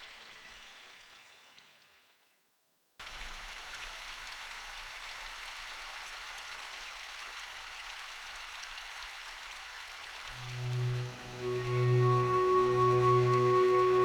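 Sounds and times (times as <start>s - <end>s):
rain falling in a forest: 0.0s - 2.3s, 3.0s - 14.0s.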